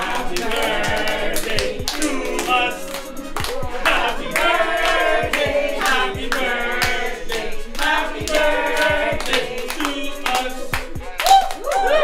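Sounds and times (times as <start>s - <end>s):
hands clapping: 0.0s - 12.0s
music: 0.0s - 12.0s
people singing: 0.0s - 12.0s.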